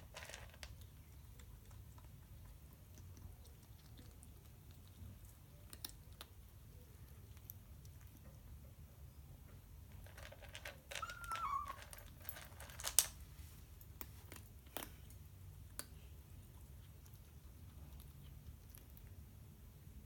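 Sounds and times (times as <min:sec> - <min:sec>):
cat crunching food: 0:00.0 - 0:08.6, 0:09.9 - 0:13.2, 0:13.8 - 0:19.4.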